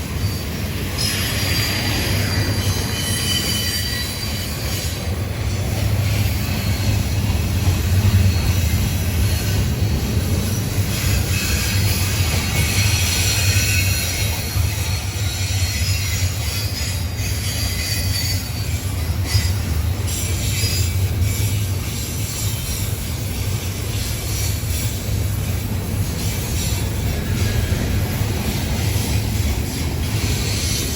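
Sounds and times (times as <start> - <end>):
freight train rumble: 0.0 - 30.9
wheels squealing on rails: 0.0 - 30.9.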